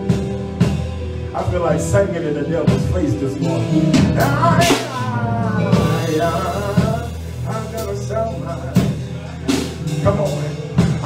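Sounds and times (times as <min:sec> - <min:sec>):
drum kit: 0:00.0 - 0:11.0
keyboard: 0:00.0 - 0:11.0
low bass notes: 0:00.0 - 0:11.0
man singing into a microphone: 0:01.4 - 0:11.0.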